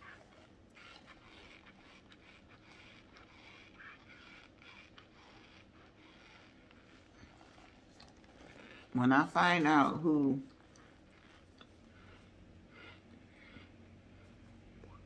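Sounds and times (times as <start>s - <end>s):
faint clicks and scrapes: 0.0s - 15.0s.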